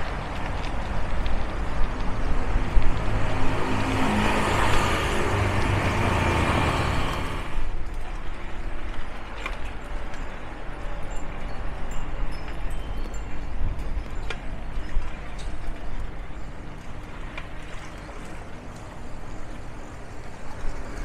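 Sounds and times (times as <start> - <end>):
quiet street noise: 0.0 - 21.0
vehicle engine and tyre noise: 0.0 - 21.0.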